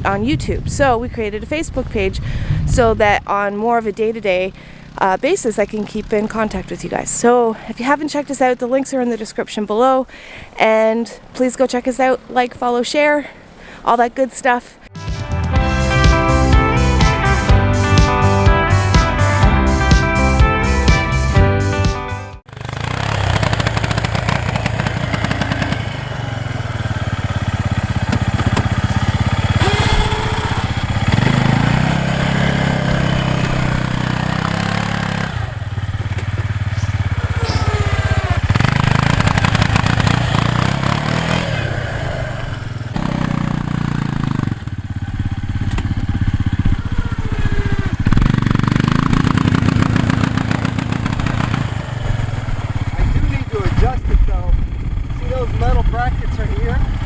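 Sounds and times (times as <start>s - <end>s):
atv engine revving: 0.0s - 13.0s, 15.8s - 21.7s, 22.4s - 57.0s.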